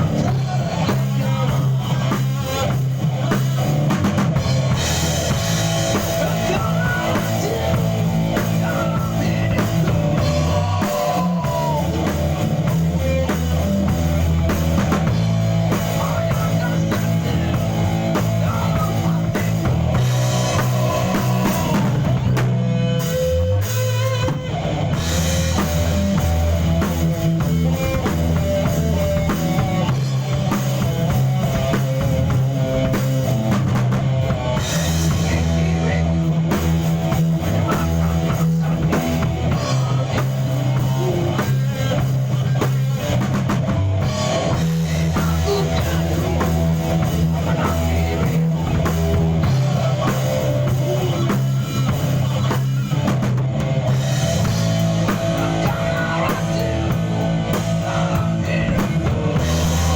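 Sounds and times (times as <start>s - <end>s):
drum kit beat: 0.0s - 59.9s
rock band playing: 0.0s - 59.9s.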